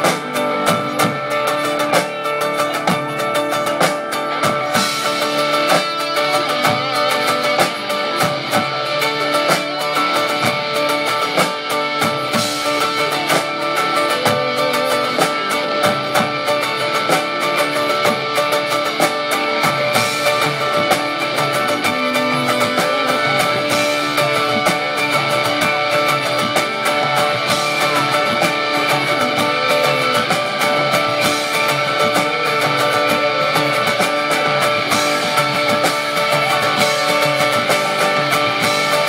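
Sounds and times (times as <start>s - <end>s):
live rock band playing: 0.0s - 39.0s.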